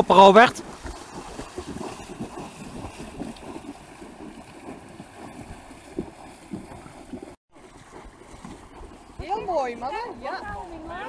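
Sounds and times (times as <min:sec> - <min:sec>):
water splashing around legs: 0:00.4 - 0:11.0.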